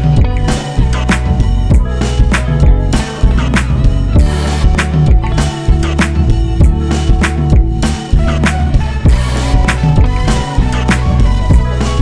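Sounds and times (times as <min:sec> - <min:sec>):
music with bass and drums: 0:00.0 - 0:12.0.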